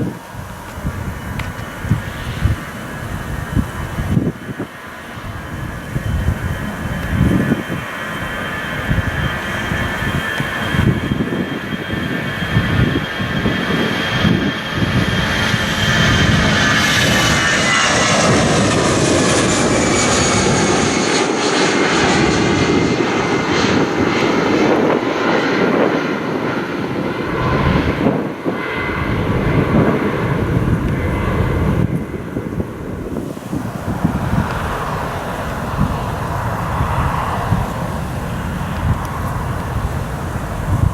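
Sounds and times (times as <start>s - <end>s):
jet airliner taking off: 0.0s - 40.9s.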